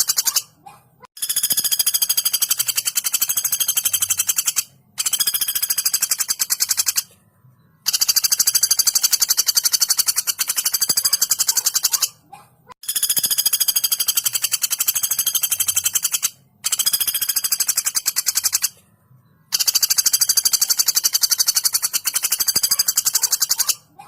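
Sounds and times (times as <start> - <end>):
woodpecker rattling trills: 0.0 - 7.1, 7.8 - 18.8, 19.4 - 24.0.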